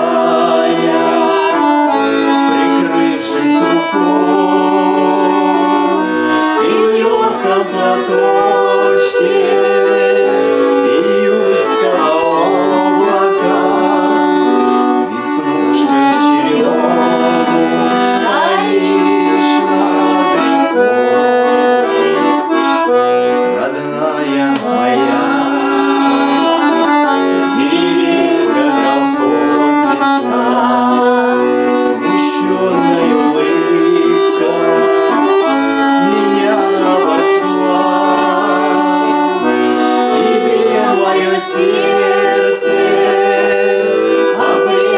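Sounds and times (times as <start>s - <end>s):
accordion folk melody: 0.0s - 44.9s.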